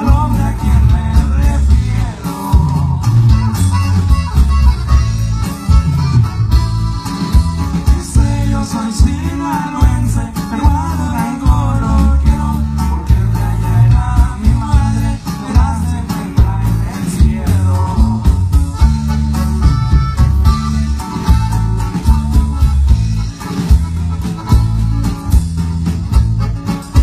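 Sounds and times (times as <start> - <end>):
live band with accordion lead: 0.0 - 27.0
walking bass line: 0.0 - 27.0.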